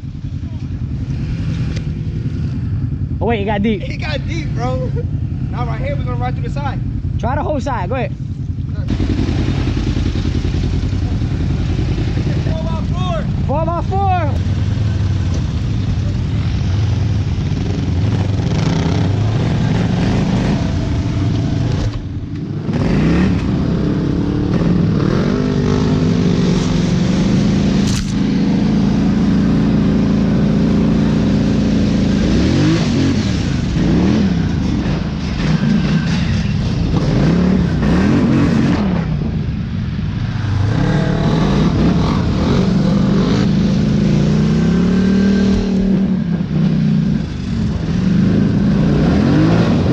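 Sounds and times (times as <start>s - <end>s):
off-road vehicle engine revving: 0.9s - 8.1s, 8.7s - 49.9s.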